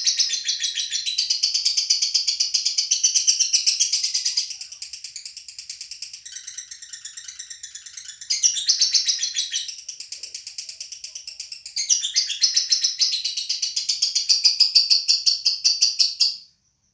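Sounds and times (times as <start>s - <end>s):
lovebird chattering high chirps: 0.0s - 16.5s.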